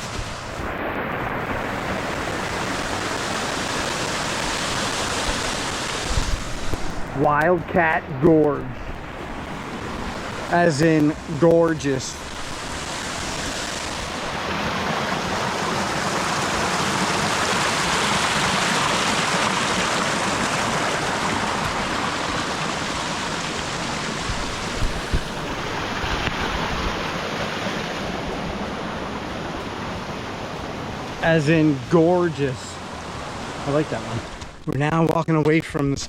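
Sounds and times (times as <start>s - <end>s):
waterfall rushing: 0.0s - 34.6s.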